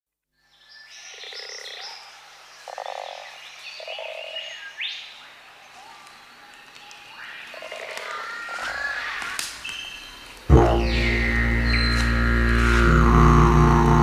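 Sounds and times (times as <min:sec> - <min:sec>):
frogs croaking: 0:01.0 - 0:13.1.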